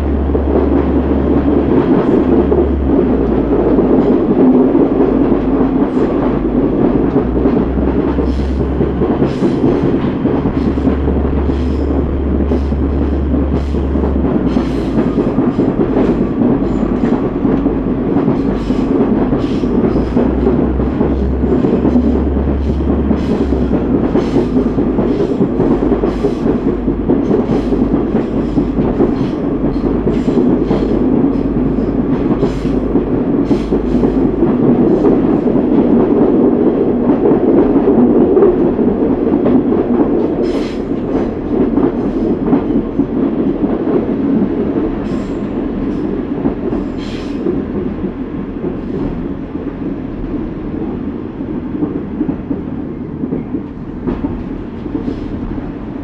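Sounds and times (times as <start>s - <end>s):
diesel train rumbling: 0.0s - 56.0s
track clicks and knocks: 0.0s - 56.0s.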